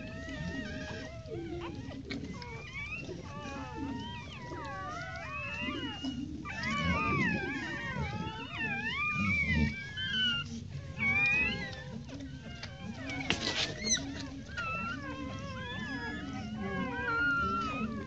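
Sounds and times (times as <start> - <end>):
puppies squeaking and whining: 0.0 - 18.0.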